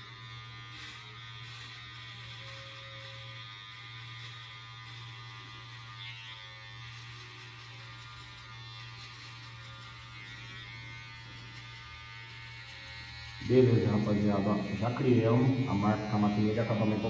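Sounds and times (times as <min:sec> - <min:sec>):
hair trimmer buzzing: 0:00.0 - 0:17.0.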